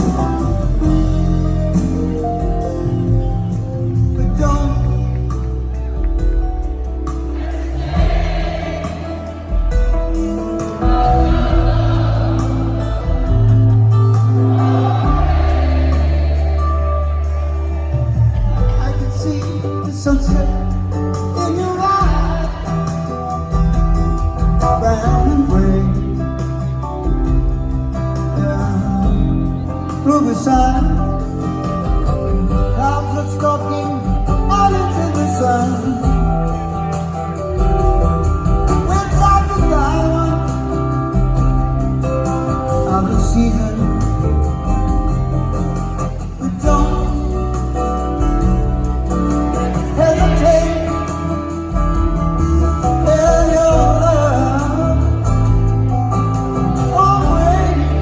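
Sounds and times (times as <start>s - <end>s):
live band soft rock ballad: 0.0s - 58.0s
person singing: 7.6s - 58.0s.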